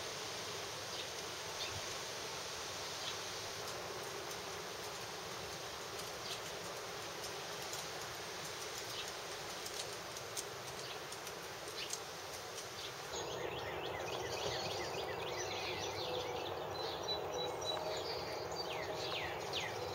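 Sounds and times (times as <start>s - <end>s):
steady outdoor hiss: 0.0s - 19.9s
small birds chirping: 2.9s - 19.9s.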